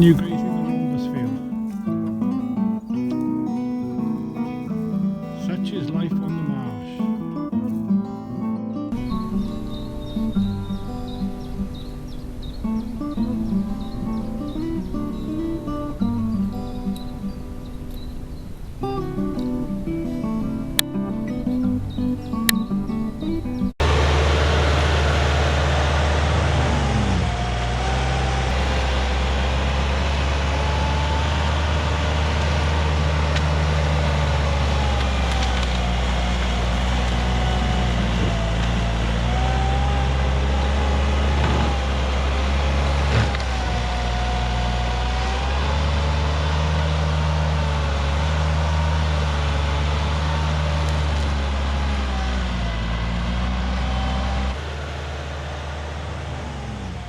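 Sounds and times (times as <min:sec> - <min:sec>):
engine droning steadily: 0:00.0 - 0:57.0.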